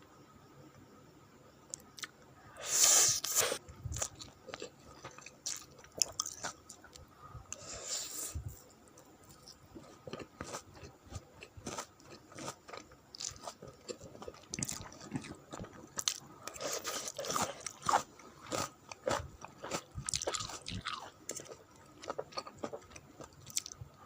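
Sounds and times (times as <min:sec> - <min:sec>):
person chewing noodles: 0:02.7 - 0:08.4, 0:09.3 - 0:23.8.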